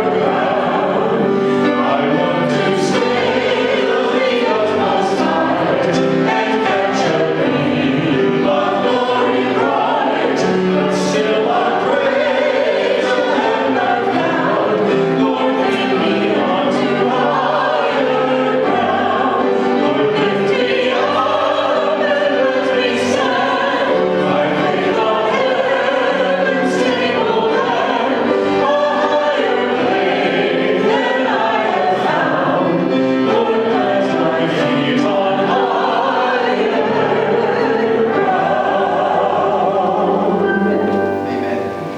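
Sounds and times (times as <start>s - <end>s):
choir singing with instruments: 0.0s - 41.9s.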